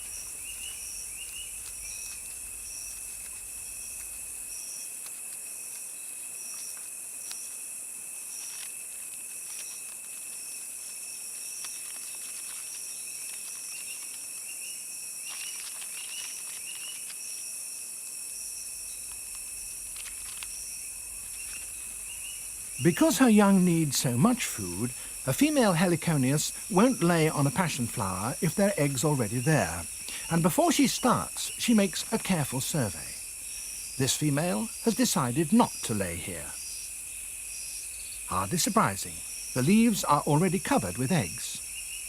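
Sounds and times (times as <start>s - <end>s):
insects shrilling: 0.0s - 42.0s
pulsing insect chirp: 0.0s - 42.0s.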